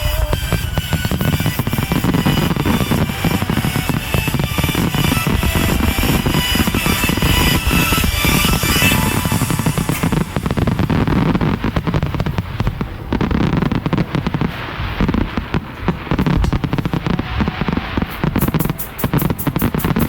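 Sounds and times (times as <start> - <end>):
fast sharp firework cracks: 0.0 - 20.0
fireworks bursts and bangs: 0.0 - 20.0.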